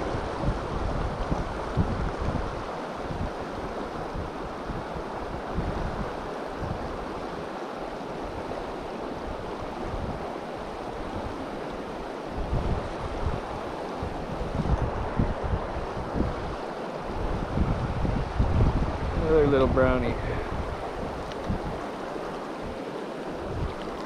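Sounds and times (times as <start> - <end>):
river water rushing over rocks: 0.0 - 24.0
wind buffeting microphone: 0.0 - 24.0.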